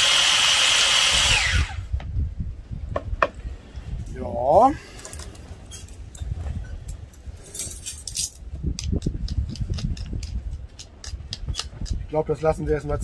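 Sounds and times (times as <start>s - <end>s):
wind rumbling on microphone: 1.1s - 13.0s.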